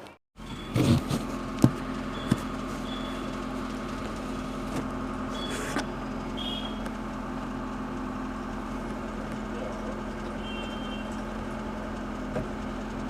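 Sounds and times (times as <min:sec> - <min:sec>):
vehicle engine running: 0:00.4 - 0:13.0.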